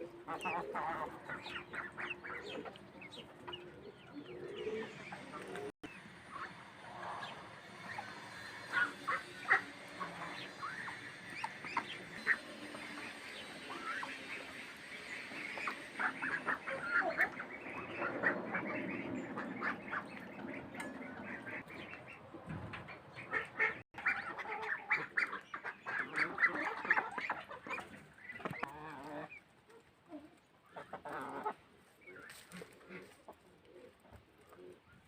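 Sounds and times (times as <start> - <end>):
poultry calling: 0.0 - 29.4.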